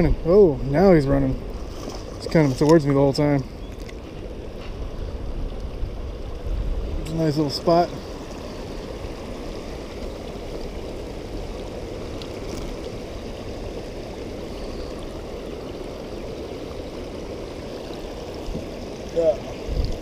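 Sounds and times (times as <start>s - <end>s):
river water running over rocks: 0.0s - 20.0s.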